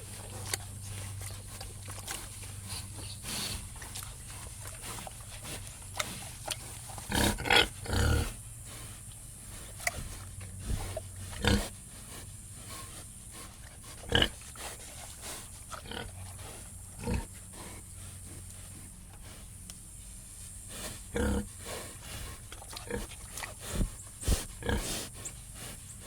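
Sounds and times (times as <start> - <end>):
low steady hum: 0.0 - 26.0
pigs grunting and snorting: 0.0 - 26.0.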